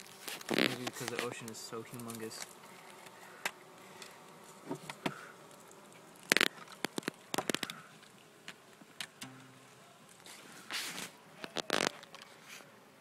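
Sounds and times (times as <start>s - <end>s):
scraping rustle: 0.0s - 8.1s, 10.1s - 12.7s.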